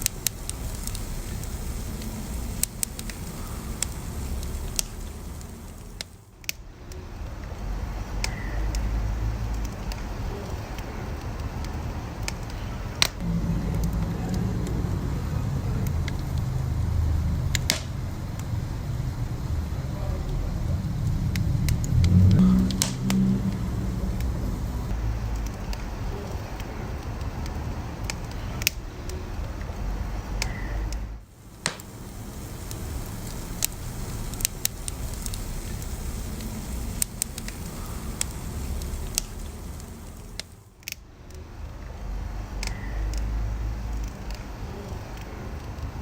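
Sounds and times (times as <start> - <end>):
fire crackles and pops: 0.0 - 46.0
wood fire roaring: 0.0 - 46.0.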